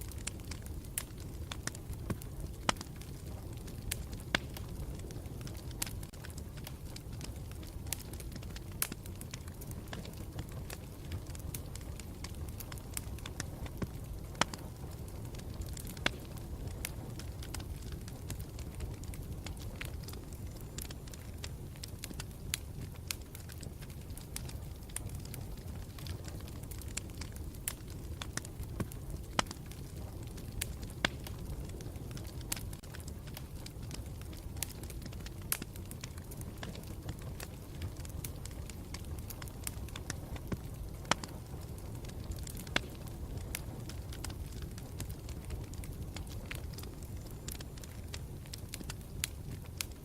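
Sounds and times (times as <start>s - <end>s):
campfire crackling: 0.0s - 50.0s.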